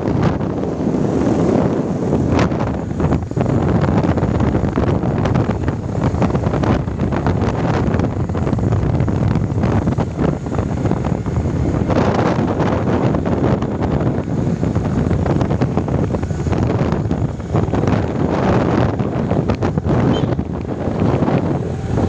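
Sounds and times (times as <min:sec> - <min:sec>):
motorcycle road noise: 0:00.0 - 0:22.0
wind buffeting microphone: 0:00.0 - 0:22.0.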